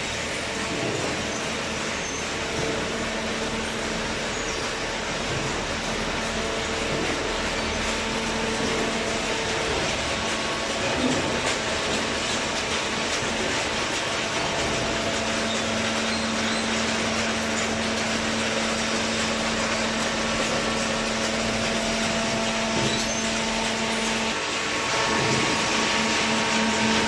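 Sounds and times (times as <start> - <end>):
baler machine noise: 0.0 - 27.0.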